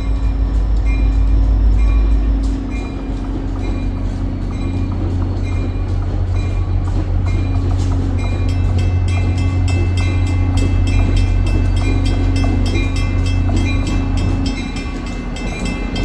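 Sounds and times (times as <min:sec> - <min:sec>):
train bell ringing: 0:00.0 - 0:16.0
train engine rumble: 0:00.0 - 0:16.0.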